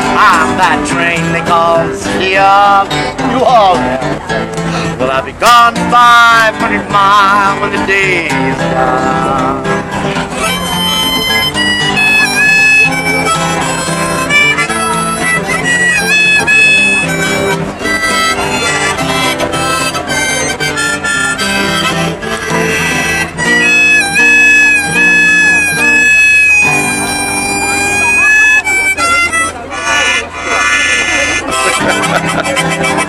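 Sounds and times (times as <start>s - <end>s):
acoustic guitar accompaniment: 0.0s - 33.0s
harmonica melody with bent notes: 0.0s - 33.0s.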